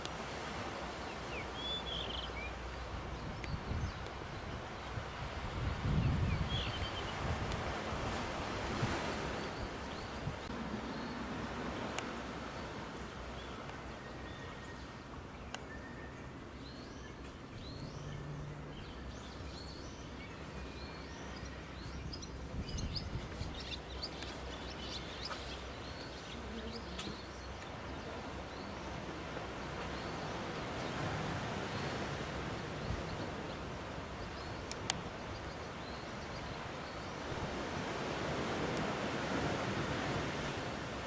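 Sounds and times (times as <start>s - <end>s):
surf on rocky shore: 0.0s - 15.8s, 21.5s - 41.0s
birds chirping: 1.0s - 7.4s, 12.5s - 40.5s.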